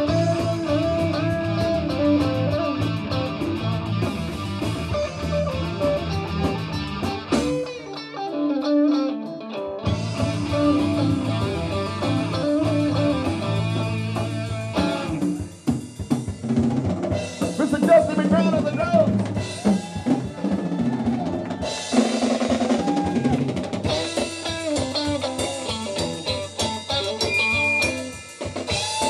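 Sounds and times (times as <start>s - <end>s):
drums: 0.0s - 29.0s
electric guitar alone: 0.0s - 29.0s
live rock band playing: 0.0s - 29.0s.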